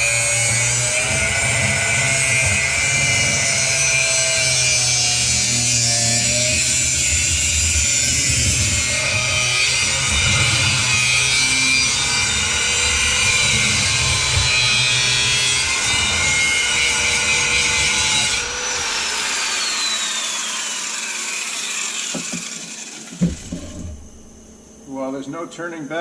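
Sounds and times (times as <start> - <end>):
power tool grinding metal: 0.0 - 24.8
tool whine spinning down: 0.0 - 26.0.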